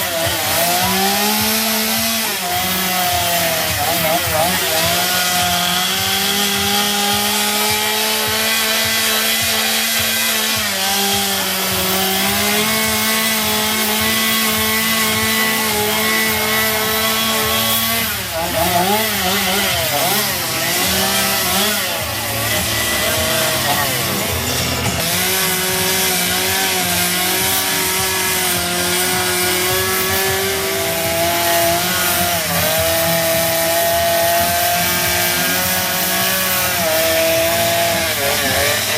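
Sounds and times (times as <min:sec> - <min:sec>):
chainsaw cutting into a log: 0:00.0 - 0:38.9.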